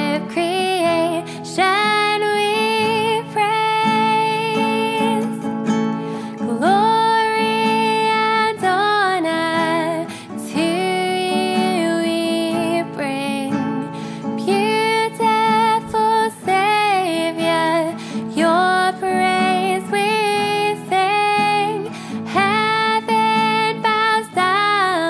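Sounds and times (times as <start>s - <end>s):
woman singing with vibrato: 0.0s - 5.5s, 6.3s - 25.0s
strummed acoustic guitar: 0.0s - 25.0s.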